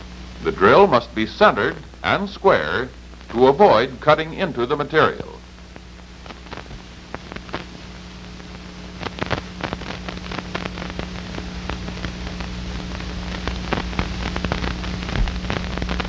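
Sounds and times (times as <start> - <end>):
crackling clicks and pops: 0.0 - 16.0
low hum and hiss: 0.0 - 16.0.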